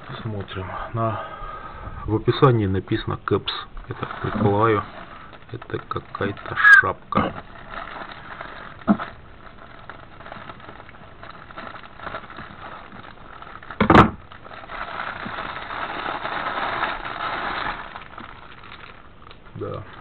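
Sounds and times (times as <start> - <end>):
plastic crinkling: 2.8 - 20.0.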